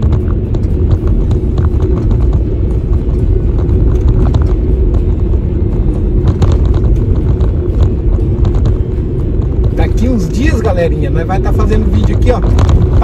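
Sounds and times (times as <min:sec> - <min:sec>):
car engine and tyre road noise: 0:00.0 - 0:13.0.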